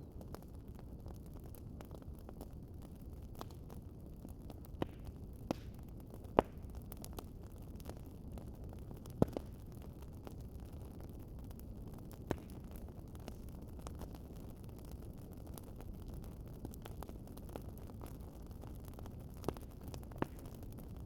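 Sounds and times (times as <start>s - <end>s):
rumble of flames: 0.0s - 21.0s
wood fire crackling: 0.0s - 21.0s.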